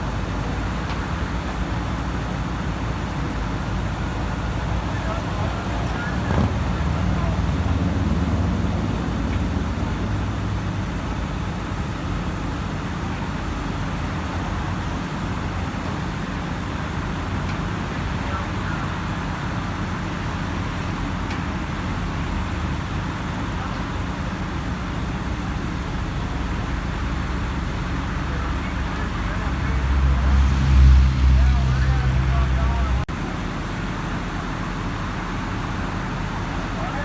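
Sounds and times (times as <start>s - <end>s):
heavy diesel machinery running: 0.0s - 37.0s.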